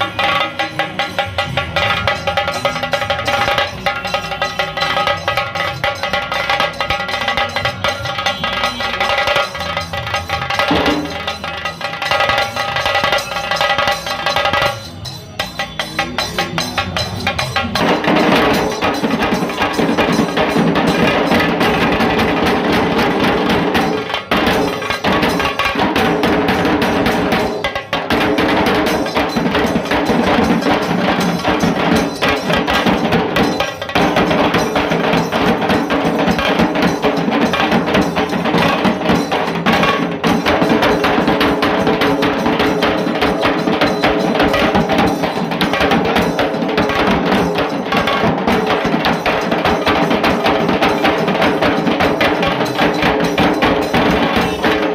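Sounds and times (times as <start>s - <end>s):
dhol drum beats: 0.0s - 54.9s.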